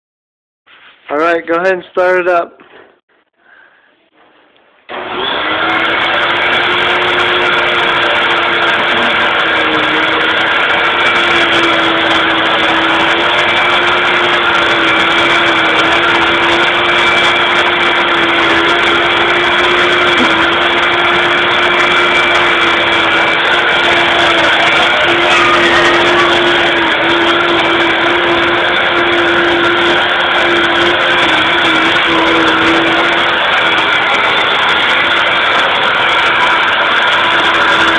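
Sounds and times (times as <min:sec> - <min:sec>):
vacuum cleaner running: 0:04.9 - 0:37.9.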